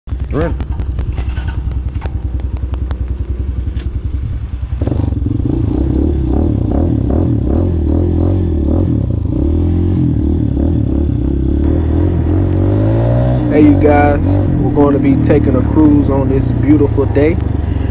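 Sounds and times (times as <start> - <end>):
motorcycle engine idling and revving: 0.1 - 17.9.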